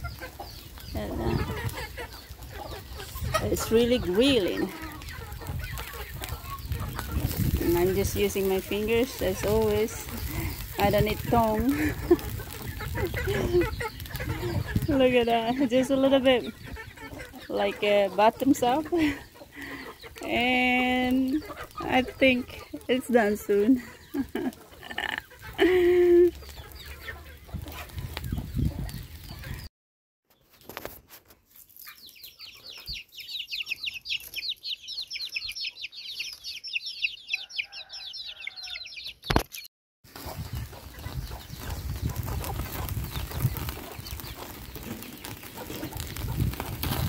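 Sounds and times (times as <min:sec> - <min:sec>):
chickens clucking: 0:00.0 - 0:29.7, 0:30.3 - 0:47.0.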